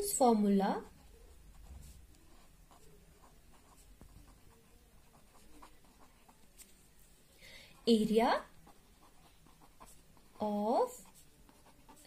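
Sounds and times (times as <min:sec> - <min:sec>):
pen scratching on paper: 0:00.0 - 0:07.1, 0:07.7 - 0:12.0.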